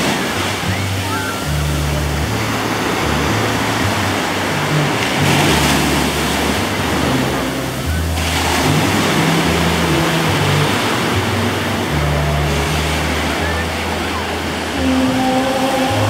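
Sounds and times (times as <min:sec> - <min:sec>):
surf breaking on a beach: 0:00.0 - 0:16.0.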